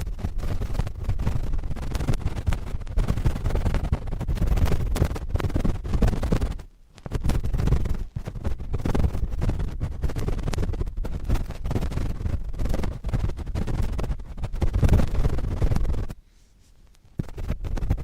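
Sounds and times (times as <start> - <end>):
cotton swabs scratching microphone: 0.0 - 18.0.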